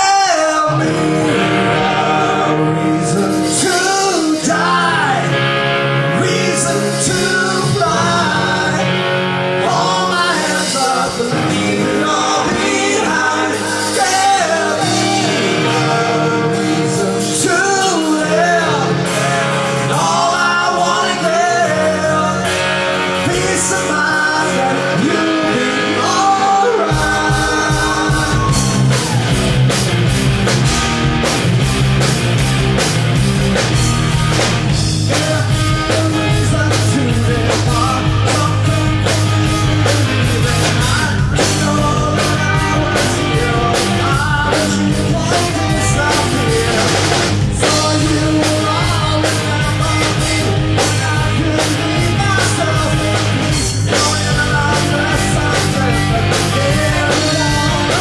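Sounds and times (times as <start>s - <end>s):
person singing: 0.0s - 29.5s, 34.8s - 58.0s
drum kit: 0.0s - 58.0s
electric bass: 0.0s - 58.0s
electric guitar: 0.0s - 58.0s.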